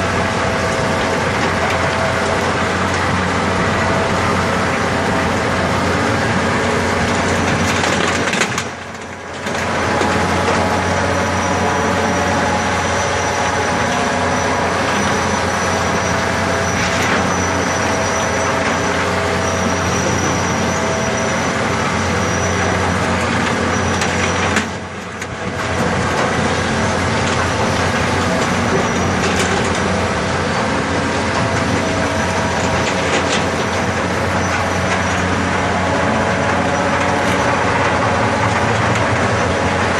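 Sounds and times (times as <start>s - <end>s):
diesel engine running loudly: 0.0s - 39.9s.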